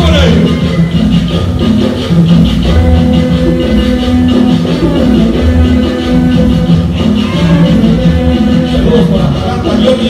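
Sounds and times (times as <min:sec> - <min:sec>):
latin dance tune from old record: 0:00.0 - 0:10.0.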